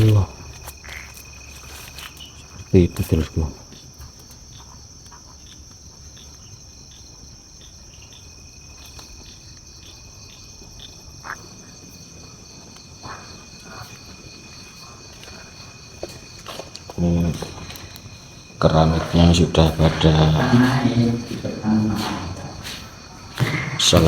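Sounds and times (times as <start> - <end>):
crickets trilling: 0.0 - 24.0
insect chirping in quick pulse: 0.0 - 24.0.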